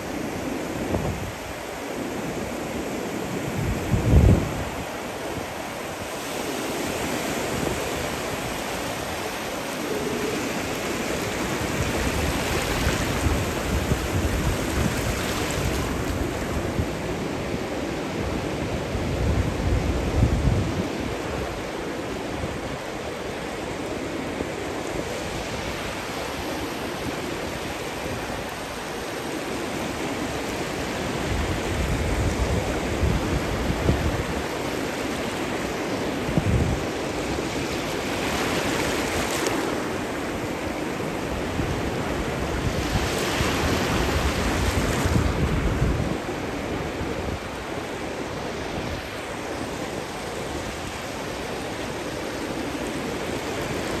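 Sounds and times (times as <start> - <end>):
ocean surf breaking on beach: 0.0 - 54.0
wind rumbling on microphone: 3.2 - 23.5, 30.7 - 54.0.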